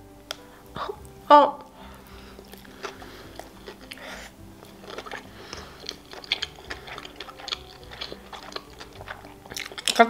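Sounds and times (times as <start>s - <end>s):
person chewing food: 0.3s - 10.0s.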